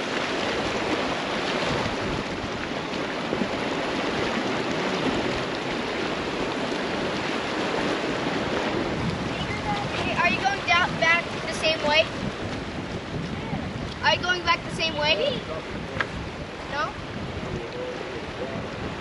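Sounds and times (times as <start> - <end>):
flood water rushing: 0.0 - 19.0.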